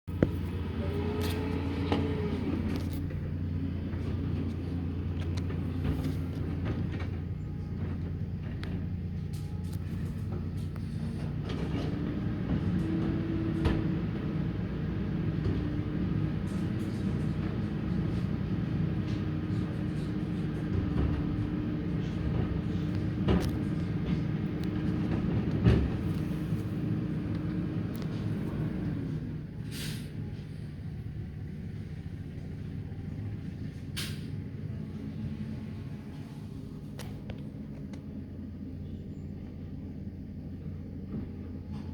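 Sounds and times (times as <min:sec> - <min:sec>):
garbage truck diesel engine: 0:00.0 - 0:41.9
hydraulic whine: 0:00.1 - 0:37.3.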